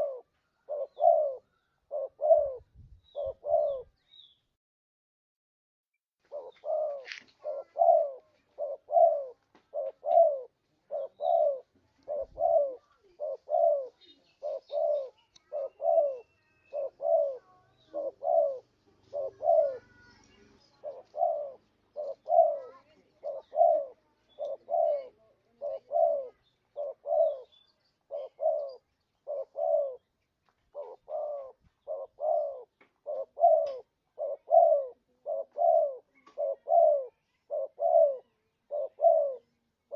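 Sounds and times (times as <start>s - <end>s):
dove cooing: 0.0s - 4.0s, 6.2s - 30.1s, 30.7s - 39.9s.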